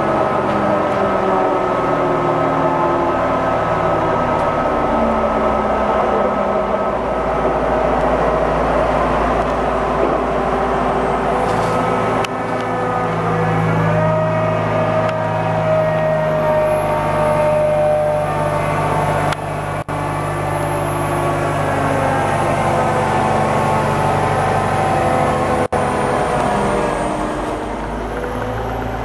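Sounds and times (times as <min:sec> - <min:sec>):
crane diesel engine running: 0:00.0 - 0:29.0.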